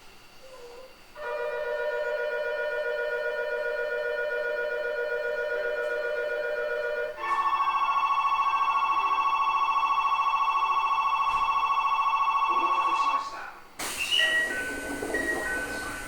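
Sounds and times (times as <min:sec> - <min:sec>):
electronic departure bell ringing: 0:01.2 - 0:13.2, 0:14.2 - 0:16.0.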